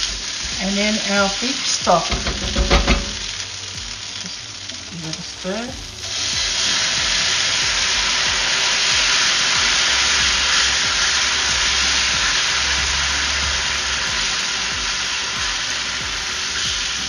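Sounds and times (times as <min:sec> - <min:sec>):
liquid sizzling in frying pan: 0:00.0 - 0:17.0.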